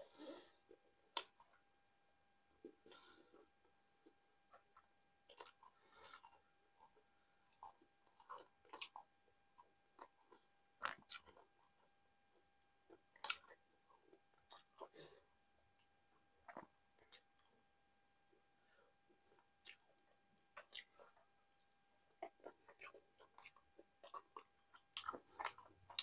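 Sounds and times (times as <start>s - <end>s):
person chewing: 2.6s - 15.2s, 15.8s - 17.6s, 19.3s - 26.0s.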